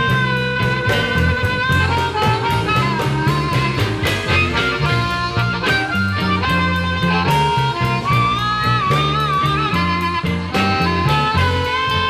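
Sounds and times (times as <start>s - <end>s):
electric guitar: 0.0s - 12.0s
harmonica bending notes: 0.0s - 12.0s
steady drum beat: 0.0s - 12.0s
upright bass: 0.0s - 12.0s.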